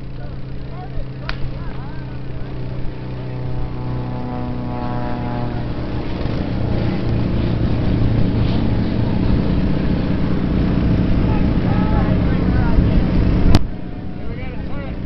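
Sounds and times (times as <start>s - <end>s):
engine drone: 0.0s - 15.0s
higher hum: 0.0s - 15.0s.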